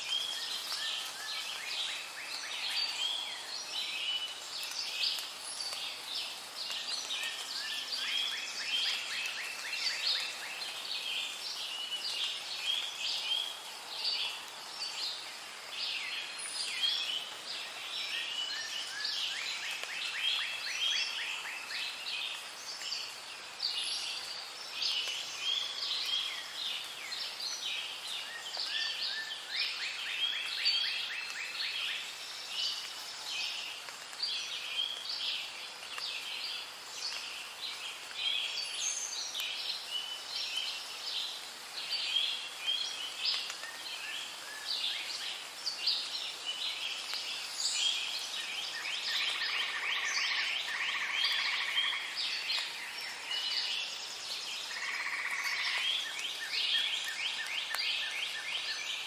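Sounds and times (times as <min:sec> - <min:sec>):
bird chorus chirps and trills: 0:00.0 - 0:59.0
faint steady hiss: 0:00.0 - 0:59.0.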